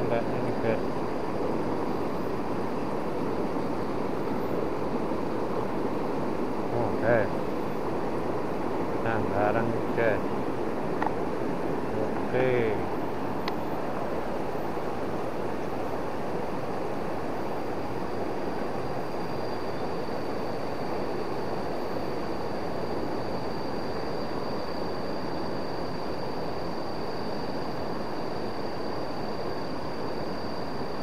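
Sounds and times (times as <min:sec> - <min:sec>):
thin high whine: 0:00.0 - 0:31.0.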